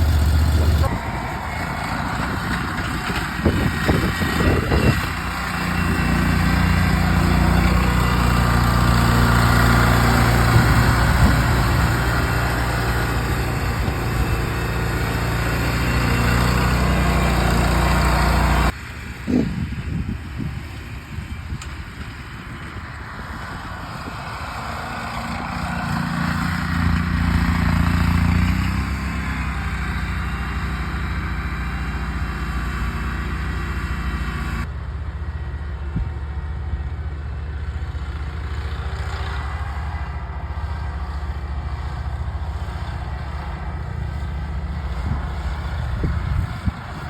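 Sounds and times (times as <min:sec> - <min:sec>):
ride-on mower engines running: 0:00.0 - 0:47.0.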